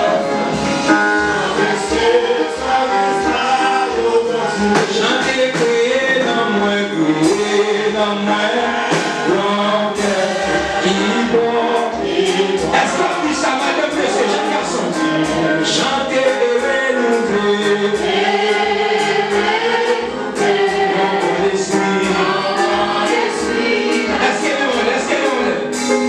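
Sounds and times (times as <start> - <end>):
congregation singing a hymn: 0.0 - 26.0
steady beat: 0.0 - 26.0.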